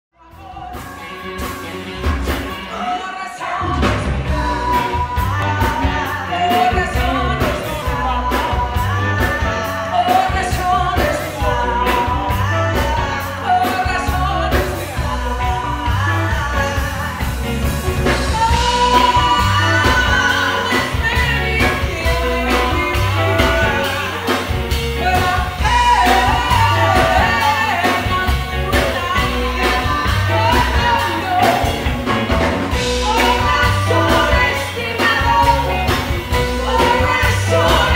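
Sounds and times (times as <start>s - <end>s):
bass line: 0.2s - 2.8s, 3.6s - 37.9s
woman singing lead: 0.2s - 37.9s
drums beating: 0.5s - 2.7s, 3.7s - 37.9s.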